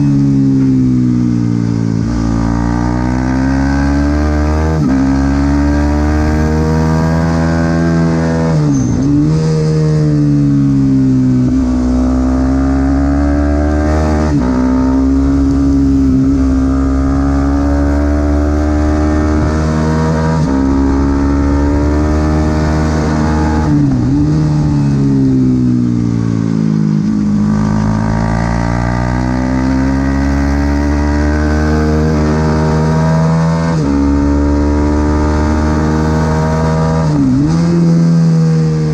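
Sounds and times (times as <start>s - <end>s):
motorcycle engine revving hard: 0.0s - 38.9s.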